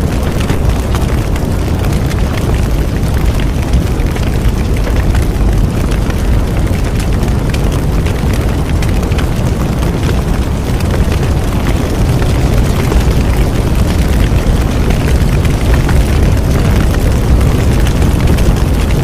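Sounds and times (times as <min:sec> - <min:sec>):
bonfire flames rushing: 0:00.0 - 0:19.0
fire crackling and popping: 0:00.0 - 0:19.0.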